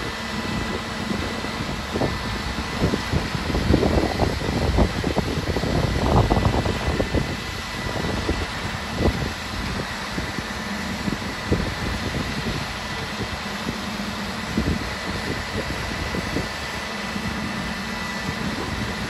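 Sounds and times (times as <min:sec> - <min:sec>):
faint steady whine: 0:00.0 - 0:19.0
truck engine running: 0:00.0 - 0:19.0.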